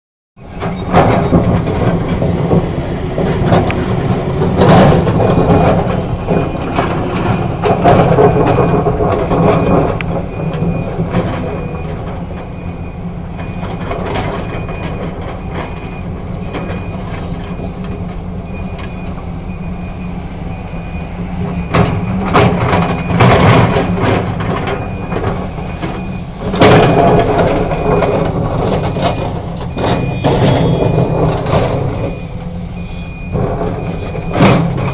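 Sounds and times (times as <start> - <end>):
metallic clanks and knocks: 0.4 - 19.2, 21.2 - 32.6, 33.2 - 34.9
excavator diesel engine: 0.4 - 34.9
reversing alarm beeping: 0.4 - 34.9.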